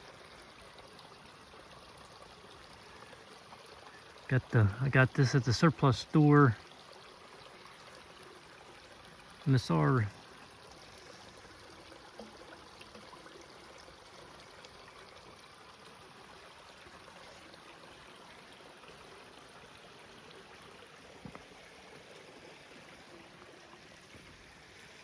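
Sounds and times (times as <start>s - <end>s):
small stream rushing: 0.0s - 25.0s.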